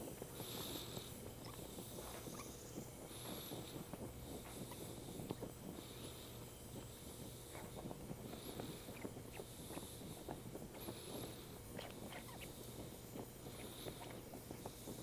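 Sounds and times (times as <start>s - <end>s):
faint crackling: 0.0s - 15.0s
gas torch flame hissing: 0.0s - 15.0s.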